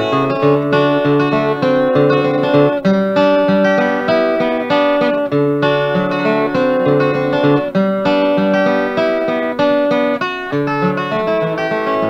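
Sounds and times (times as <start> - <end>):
acoustic guitar picking: 0.0 - 12.0.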